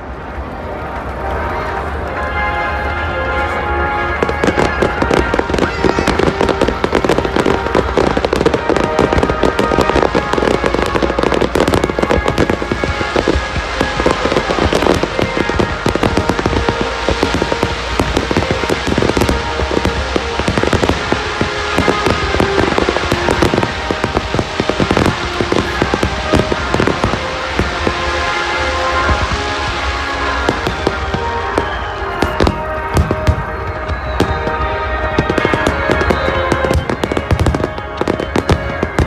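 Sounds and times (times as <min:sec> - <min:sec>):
fireworks bangs and crackles: 0:00.0 - 0:39.0
music playing: 0:00.0 - 0:39.0.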